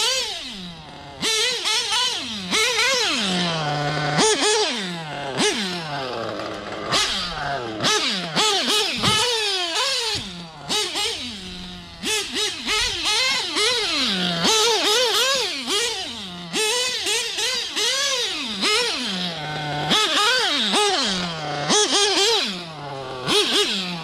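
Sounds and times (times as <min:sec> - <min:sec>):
nitro engine revving: 0:00.0 - 0:24.0.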